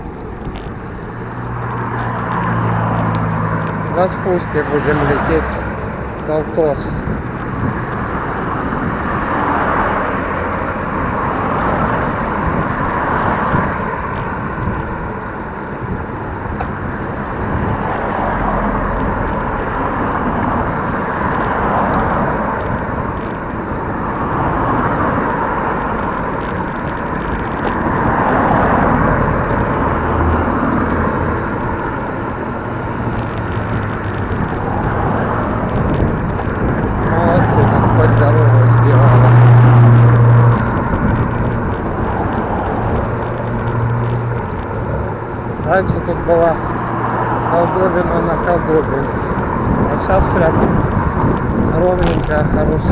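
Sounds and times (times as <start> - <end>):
bicycle road noise: 0.0 - 52.9
wind rushing: 0.0 - 52.9.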